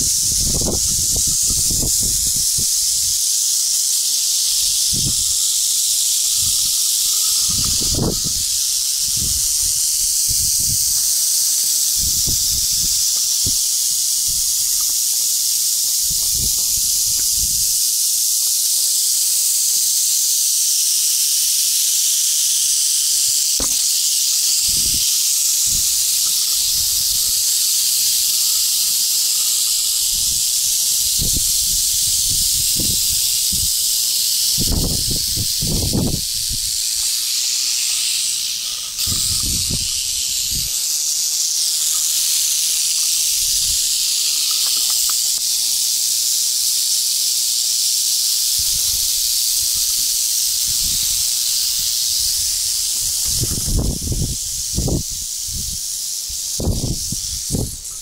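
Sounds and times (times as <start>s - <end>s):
rattlesnakes rattling: 0.0s - 58.0s.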